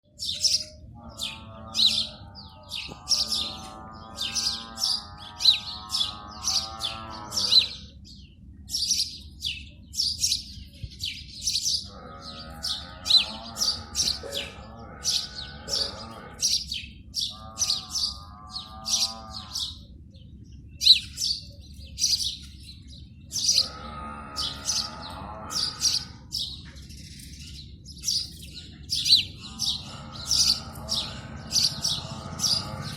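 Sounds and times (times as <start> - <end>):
sparrows chirping: 0.0 - 32.9.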